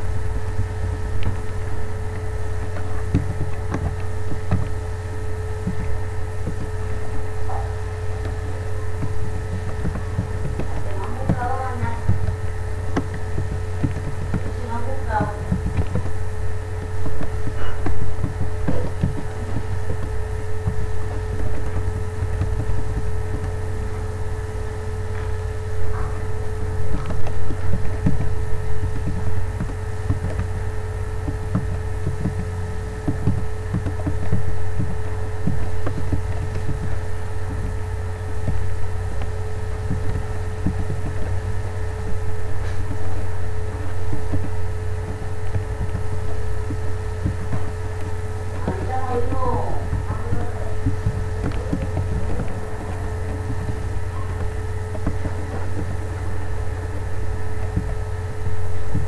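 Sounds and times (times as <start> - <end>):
low electrical hum: 0.0 - 59.0
keyboard typing: 0.4 - 59.0.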